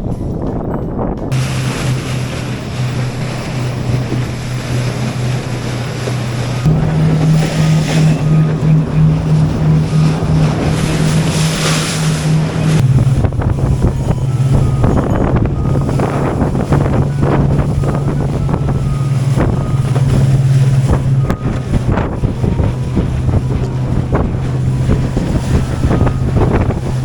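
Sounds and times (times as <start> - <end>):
motorboat engine running: 0.0 - 27.0
wind buffeting microphone: 0.0 - 27.0
water rushing past hull: 1.3 - 27.0.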